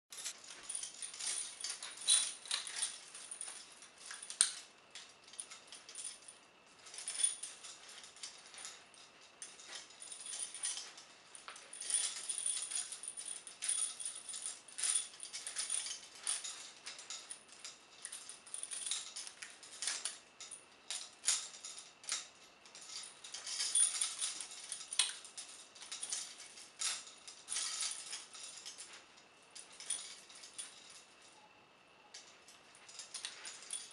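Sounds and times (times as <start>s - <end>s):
chains clinking and jangling: 0.1s - 33.9s.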